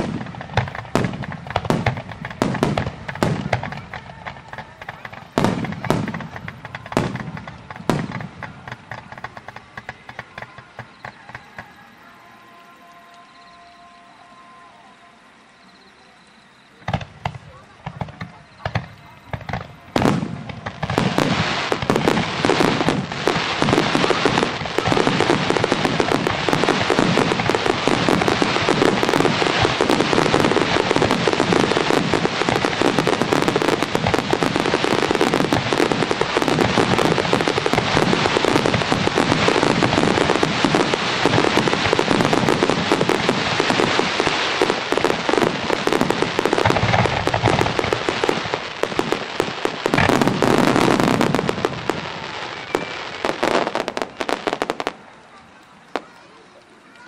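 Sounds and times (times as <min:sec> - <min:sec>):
fireworks bursting and crackling: 0:00.0 - 0:14.0, 0:16.6 - 0:57.0.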